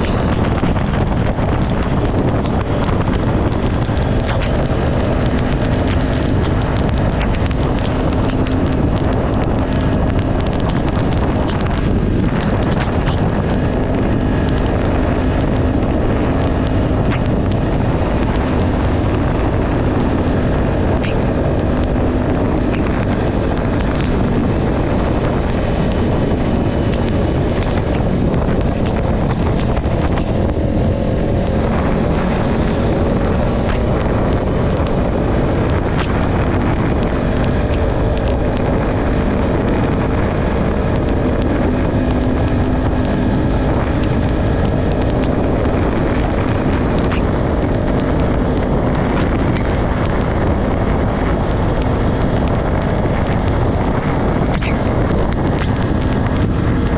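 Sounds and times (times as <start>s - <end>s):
motorcycle engine cruising: 0.0s - 56.9s
wind rushing over microphone: 0.0s - 56.9s.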